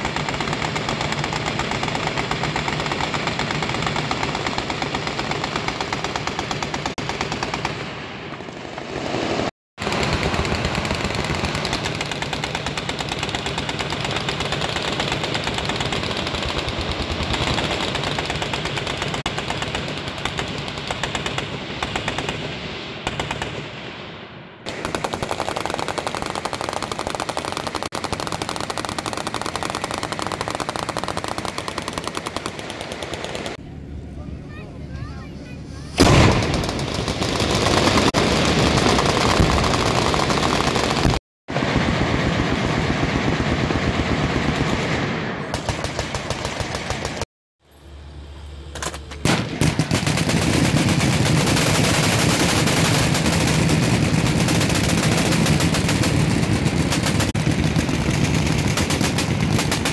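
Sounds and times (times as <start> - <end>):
machine guns firing: 0.0 - 23.8, 24.6 - 33.6, 36.0 - 47.3, 48.8 - 59.9.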